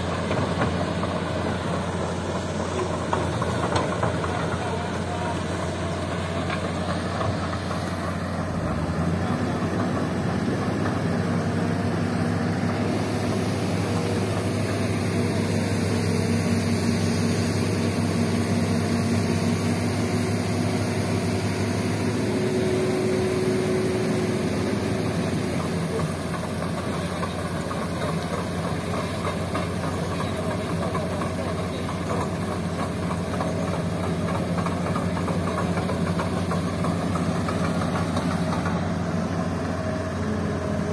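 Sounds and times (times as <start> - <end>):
dump truck engine running: 0.0 - 40.9
excavator diesel engine running: 0.0 - 40.9.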